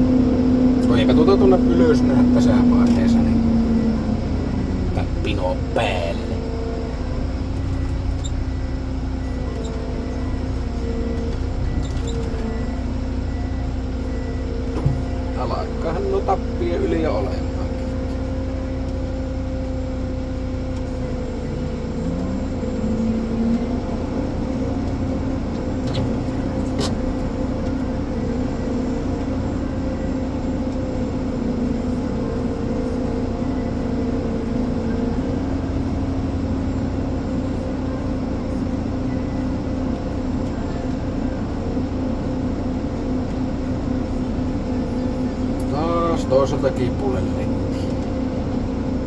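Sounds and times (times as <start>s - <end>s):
diesel engine under hydraulic load: 0.0s - 49.0s.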